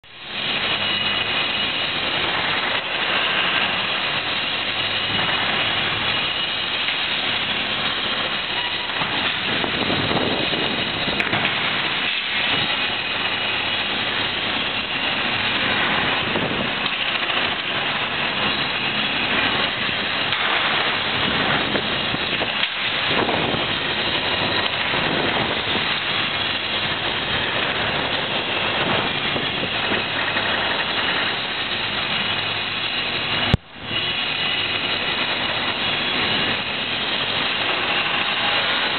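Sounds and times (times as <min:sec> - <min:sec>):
heavy construction machinery running: 0:00.0 - 0:38.9.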